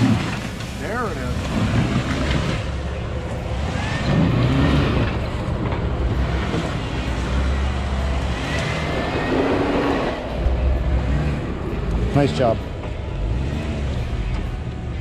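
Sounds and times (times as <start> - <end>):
engine revving under load: 0.0 - 15.0.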